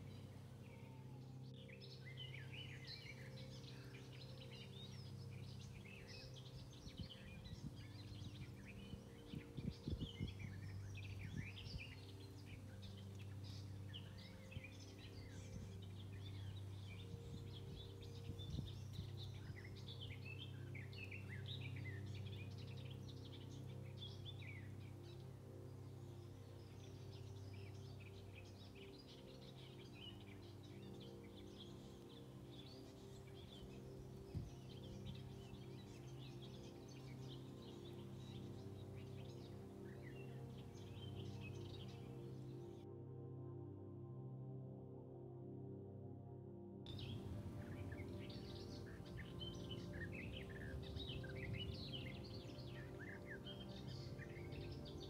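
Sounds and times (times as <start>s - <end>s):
birds chirping and singing: 0.0s - 42.9s, 46.9s - 55.0s.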